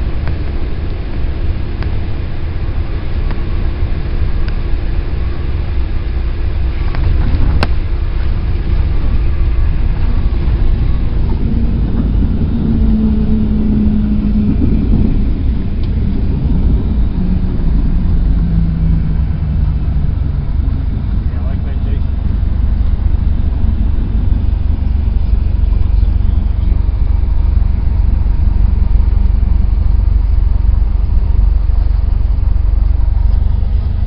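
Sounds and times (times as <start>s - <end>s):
airplane engine and propeller: 0.0s - 34.0s
humming tone: 0.0s - 34.0s.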